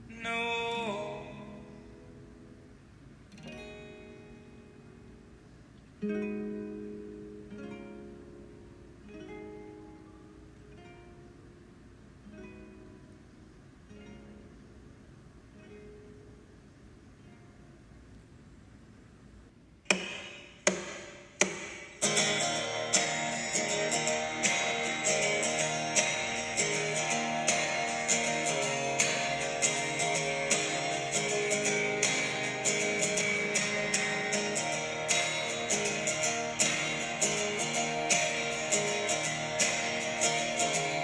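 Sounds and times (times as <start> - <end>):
strummed acoustic guitar: 0.0 - 5.4, 6.0 - 14.8, 19.9 - 41.0.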